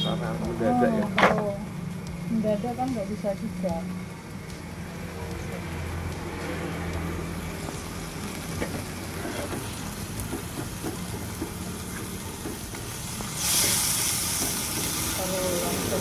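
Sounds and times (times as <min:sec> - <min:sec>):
steady low hum: 0:00.0 - 0:13.4
faint sizzle: 0:00.0 - 0:16.0.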